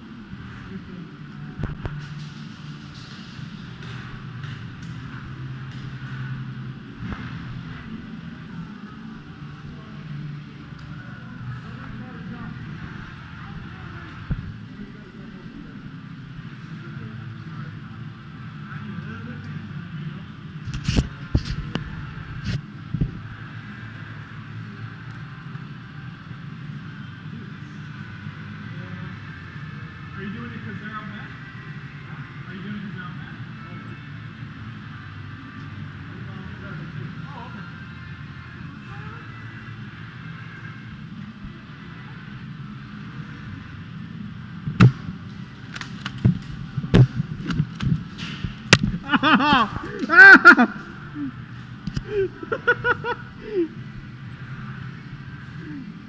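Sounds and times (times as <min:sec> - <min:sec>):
outdoor background noise: 0:00.0 - 0:56.0
steady low hum: 0:00.0 - 0:56.0.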